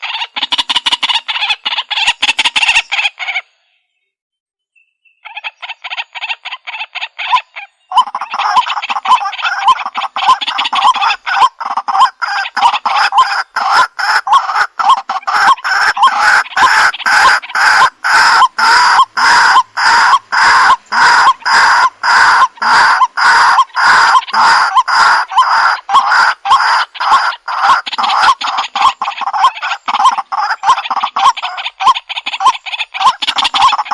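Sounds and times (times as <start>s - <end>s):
bird calling repeated notes: 4.8s - 33.9s.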